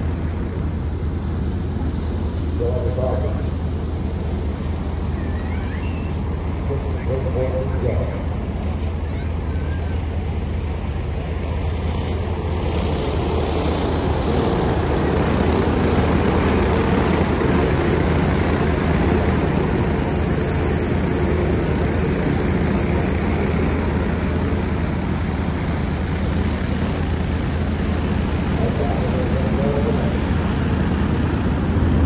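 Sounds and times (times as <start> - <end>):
race car engines droning: 0.0 - 32.0.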